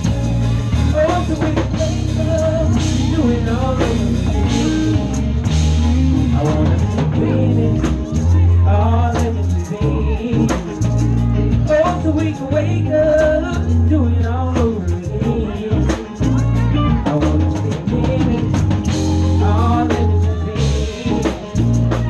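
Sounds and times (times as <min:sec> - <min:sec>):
man singing into microphone: 0:00.0 - 0:22.0
soul band playing: 0:00.0 - 0:22.0.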